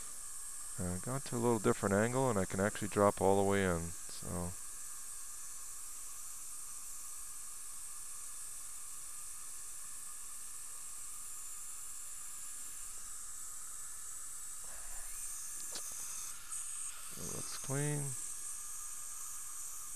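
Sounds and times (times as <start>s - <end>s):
steady hiss: 0.0s - 19.9s.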